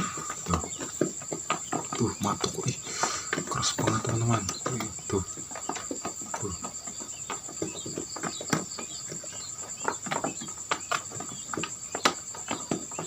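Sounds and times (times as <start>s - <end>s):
quail pecking taps: 0.0s - 13.0s.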